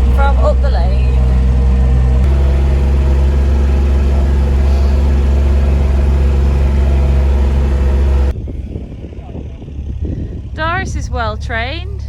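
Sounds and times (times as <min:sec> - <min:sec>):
vehicle engine low drone: 0:00.0 - 0:12.0.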